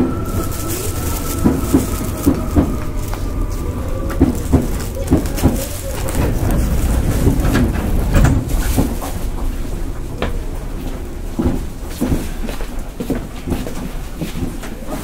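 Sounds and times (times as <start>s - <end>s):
train car rumble: 0.0s - 15.0s
knocks and clatters: 0.1s - 14.8s.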